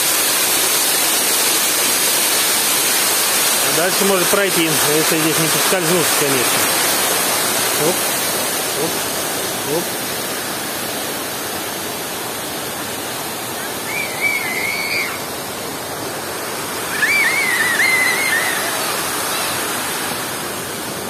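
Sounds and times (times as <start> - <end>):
waterfall rushing into pool: 0.0 - 21.0.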